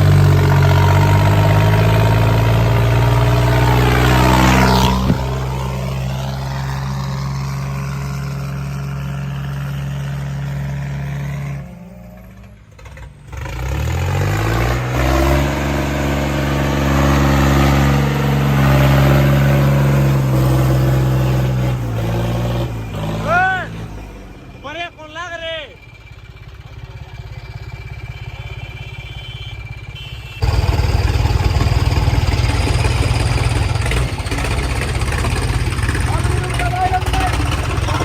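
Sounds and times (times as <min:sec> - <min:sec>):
diesel tractor engine running: 0:00.0 - 0:38.0.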